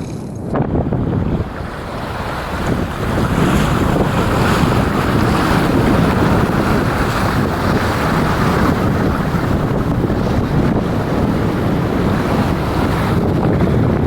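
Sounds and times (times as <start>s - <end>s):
sea water rushing: 0.0s - 14.0s
wind buffeting microphone: 0.0s - 14.0s.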